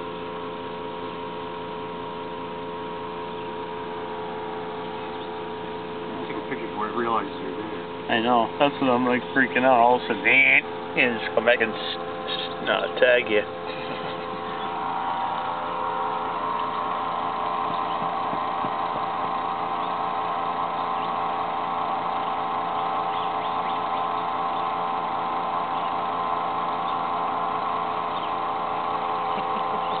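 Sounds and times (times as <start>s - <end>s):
motor humming: 0.0s - 30.0s.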